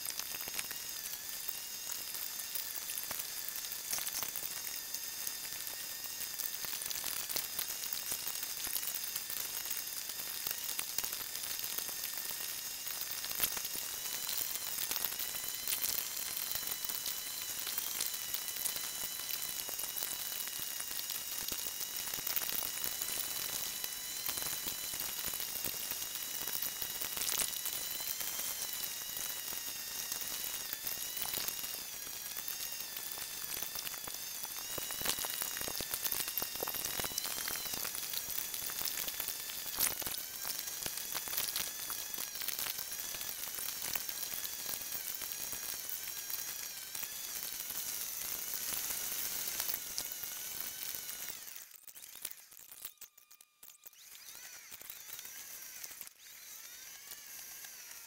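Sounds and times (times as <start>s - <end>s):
crackling hiss: 0.0s - 56.1s
high wavering whining tones: 0.0s - 58.0s
sharp ticks: 0.0s - 58.0s.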